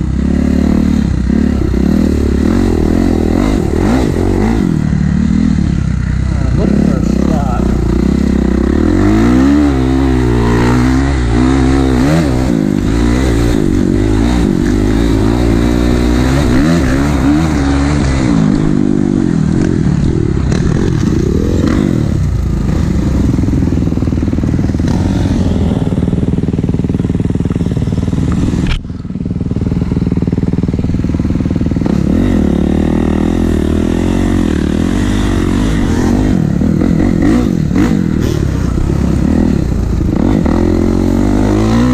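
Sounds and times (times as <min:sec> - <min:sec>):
dirt bike engine revving: 0:00.0 - 0:28.8, 0:29.8 - 0:41.9.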